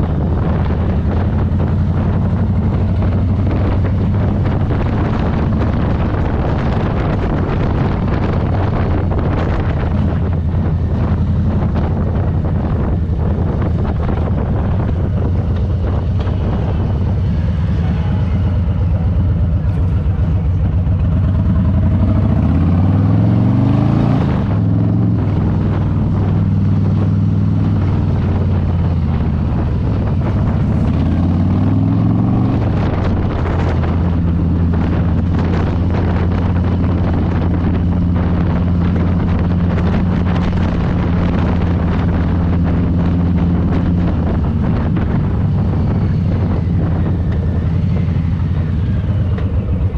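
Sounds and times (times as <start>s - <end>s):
motorcycle engine accelerating: 0.0s - 49.9s
wind on microphone: 0.0s - 49.9s.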